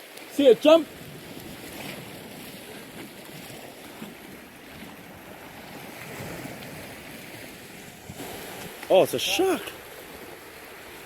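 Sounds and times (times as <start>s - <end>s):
sea waves breaking on rocks: 0.0s - 11.0s.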